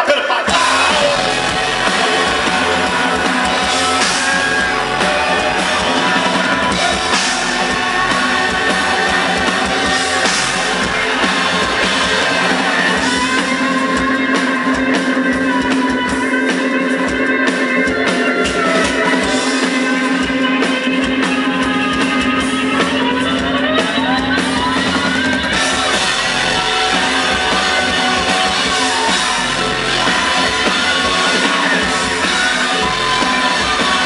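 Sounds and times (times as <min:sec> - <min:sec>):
drums: 0:00.0 - 0:34.0
electric guitar: 0:00.0 - 0:34.0.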